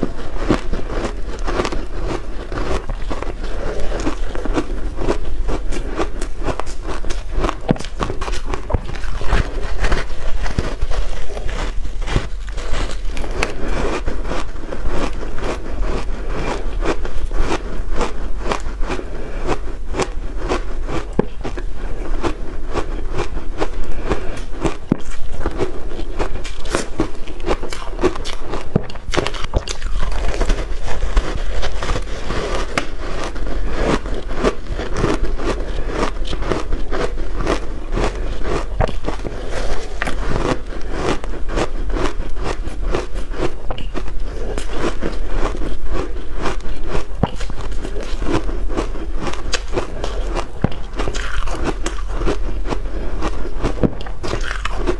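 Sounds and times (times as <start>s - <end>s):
shaved ice crunching when chewed: 0.0s - 54.9s.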